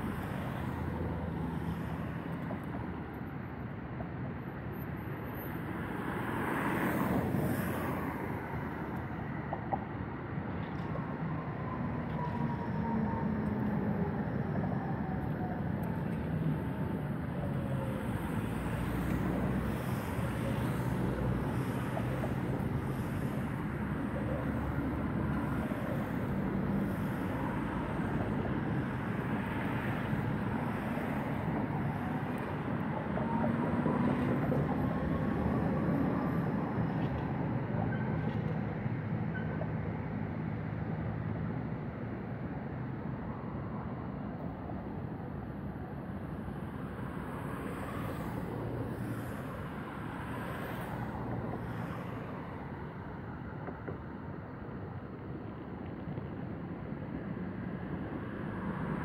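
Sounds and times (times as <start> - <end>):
city traffic rumble: 0.0 - 59.0.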